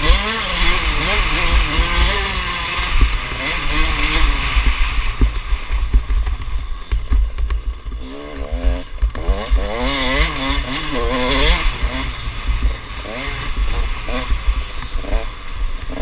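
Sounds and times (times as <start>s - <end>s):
motorbike engines revving: 0.0s - 16.0s.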